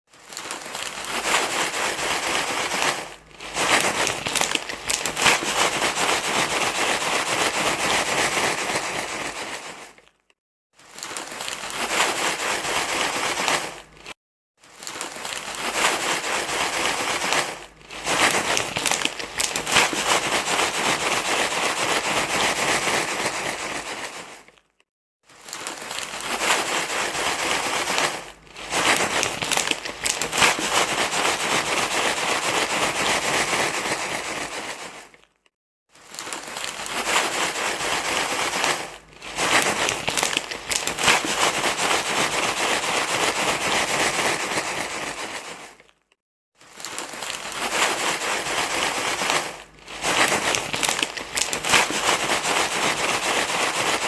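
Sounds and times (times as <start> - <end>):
crinkling crackling rustle: 0.1 - 54.0.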